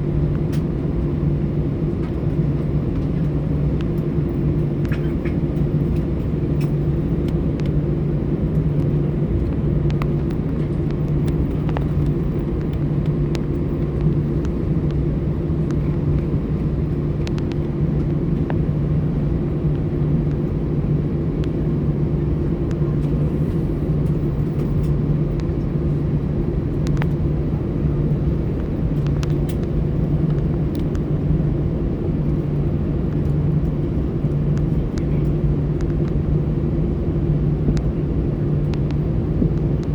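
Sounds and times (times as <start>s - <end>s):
aircraft engine hum: 0.0s - 39.9s.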